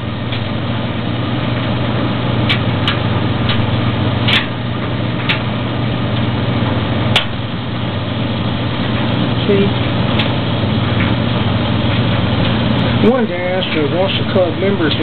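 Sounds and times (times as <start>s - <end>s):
dryer humming: 0.0s - 15.0s.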